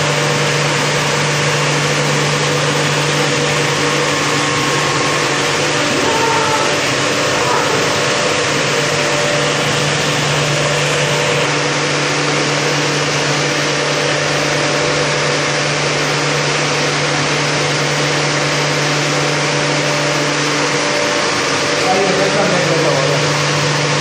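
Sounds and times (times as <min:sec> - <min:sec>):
pump mechanical hum: 0:00.0 - 0:24.0.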